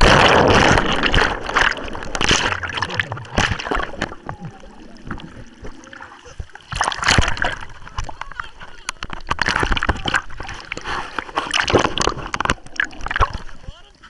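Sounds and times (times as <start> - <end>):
sea water splashing and rushing: 0.0 - 14.0.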